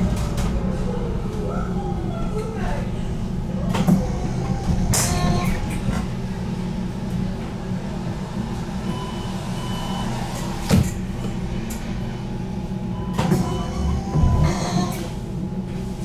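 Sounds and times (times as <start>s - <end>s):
tram humming: 0.0s - 16.0s.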